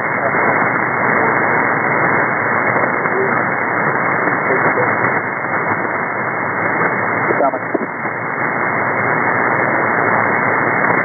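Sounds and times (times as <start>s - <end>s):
shortwave radio static: 0.0s - 11.0s.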